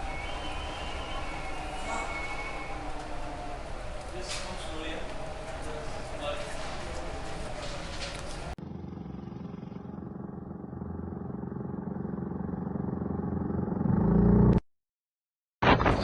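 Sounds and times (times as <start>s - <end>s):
engine running: 0.0s - 14.6s.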